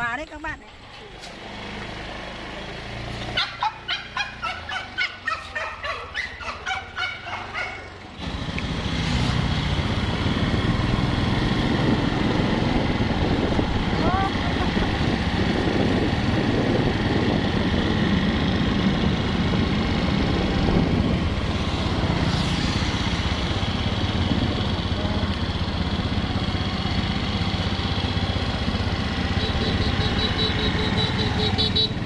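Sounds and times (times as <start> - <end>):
motor scooter engines: 0.0 - 32.0.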